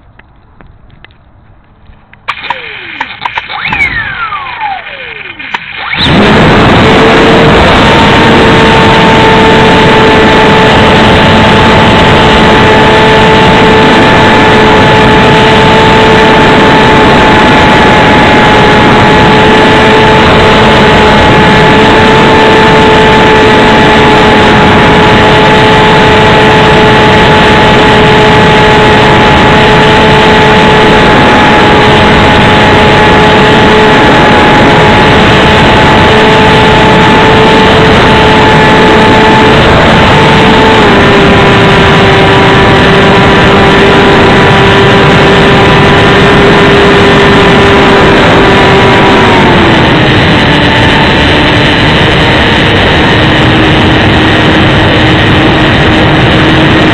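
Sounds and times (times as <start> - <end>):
wind and vibration noise: 0.0 - 56.9
electric motor and propeller whine: 2.3 - 56.9.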